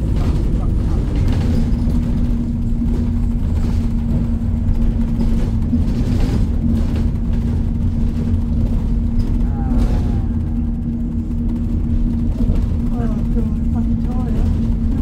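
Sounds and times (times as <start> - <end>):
bus engine and road noise: 0.0 - 15.0
constant hum: 0.0 - 15.0.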